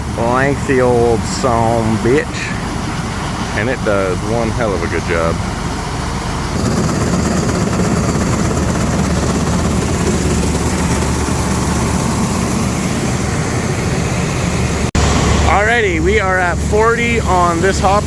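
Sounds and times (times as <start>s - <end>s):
grain auger mechanical drone: 0.0s - 18.0s.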